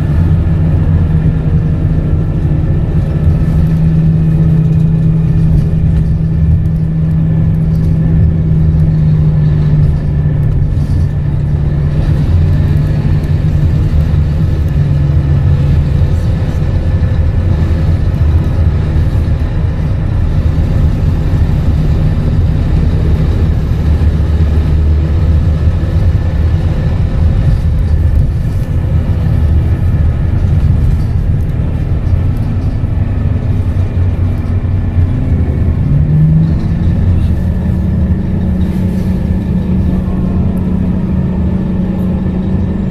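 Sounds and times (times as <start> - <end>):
bus diesel engine running: 0.0 - 42.9.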